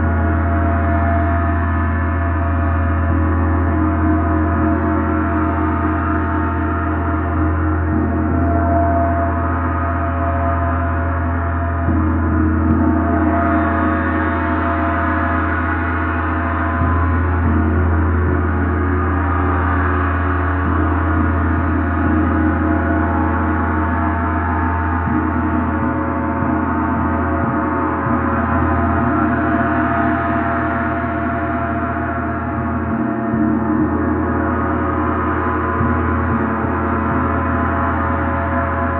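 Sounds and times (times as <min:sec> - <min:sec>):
deep steady hum: 0:00.0 - 0:38.9
gong ringing: 0:00.0 - 0:38.9.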